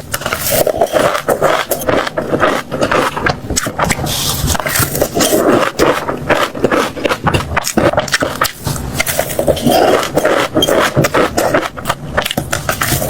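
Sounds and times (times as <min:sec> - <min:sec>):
chewing crunchy food: 0:00.0 - 0:13.0.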